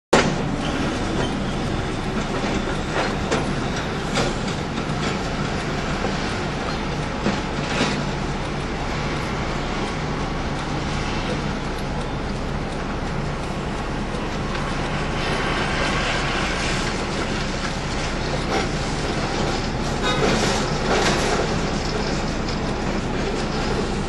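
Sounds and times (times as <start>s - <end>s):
diesel engine running under load: 0.2s - 24.0s.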